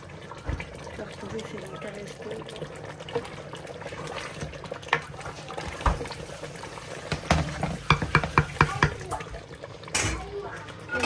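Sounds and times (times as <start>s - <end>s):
liquid washing: 0.0s - 11.0s.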